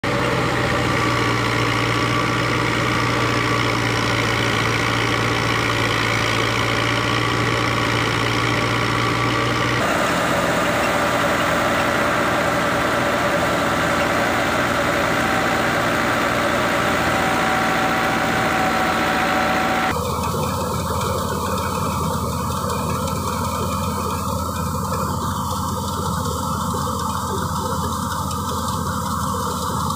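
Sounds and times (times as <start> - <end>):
tractor diesel engine running: 0.0 - 29.9
wheat thresher running: 0.0 - 29.9.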